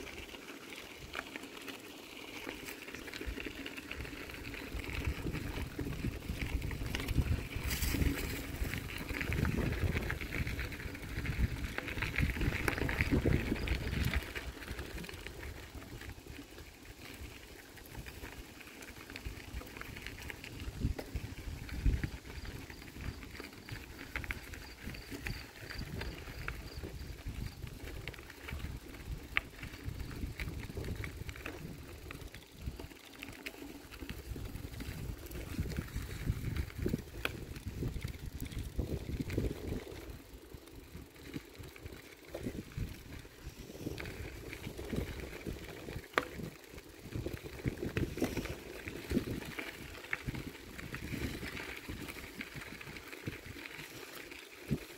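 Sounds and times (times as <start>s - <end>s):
bicycle tyres rumbling over dirt: 0.0s - 54.9s
bike clicks and rattles: 0.0s - 54.9s
wind buffeting microphone: 3.3s - 16.4s, 19.2s - 32.9s, 33.9s - 54.0s.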